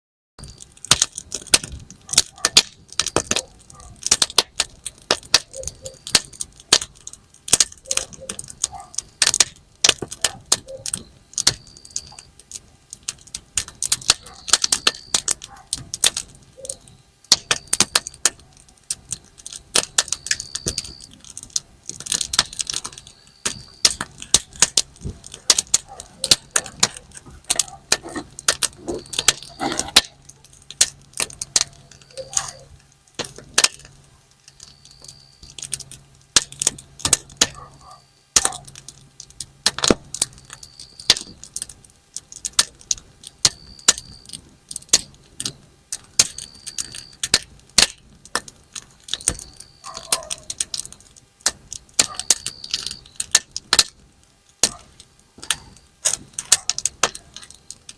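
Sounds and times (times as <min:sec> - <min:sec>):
campfire crackling and popping: 0:00.4 - 0:57.9.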